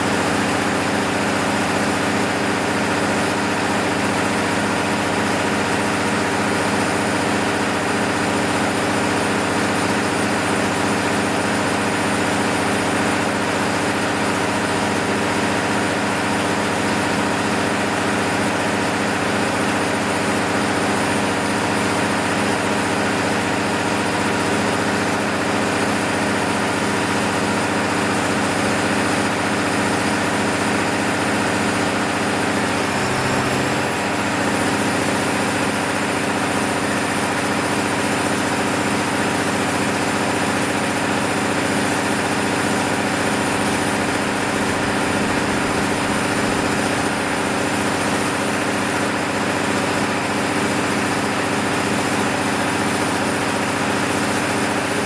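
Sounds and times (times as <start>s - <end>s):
diesel generator engine running: 0.0s - 55.0s.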